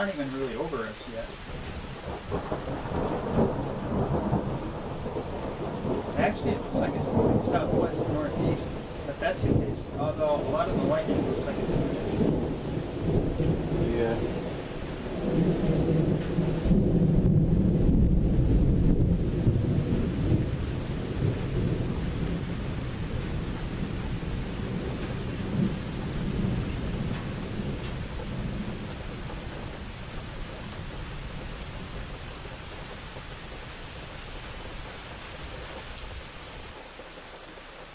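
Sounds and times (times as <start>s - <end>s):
thunder rumbling: 0.0s - 33.5s
steady rain: 0.0s - 37.9s.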